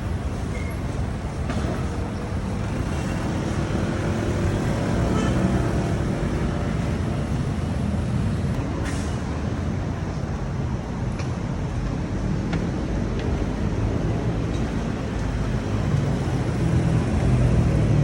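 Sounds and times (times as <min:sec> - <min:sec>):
road traffic rumbling: 0:00.0 - 0:18.0.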